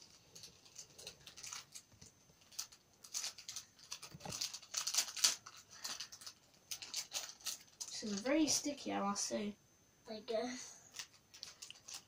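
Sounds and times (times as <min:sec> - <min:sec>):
foil packet crinkling: 0:00.0 - 0:08.6, 0:10.9 - 0:12.0.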